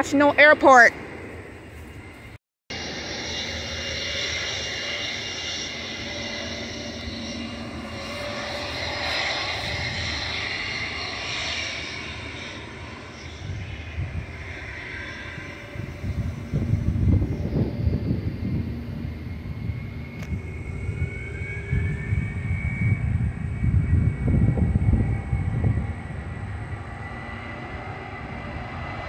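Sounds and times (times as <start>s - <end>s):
jet engines roaring with whine: 0.0s - 29.0s
low rumble: 0.0s - 29.0s.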